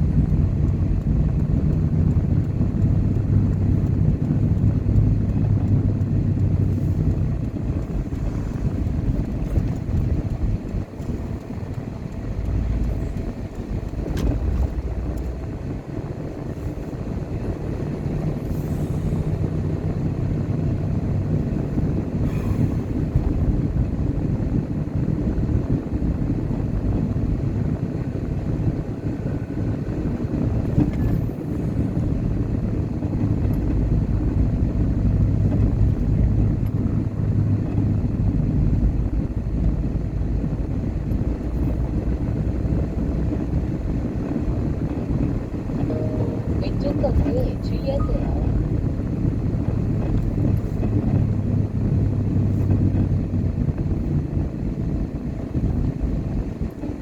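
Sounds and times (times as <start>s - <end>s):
car engine: 0.0s - 57.0s.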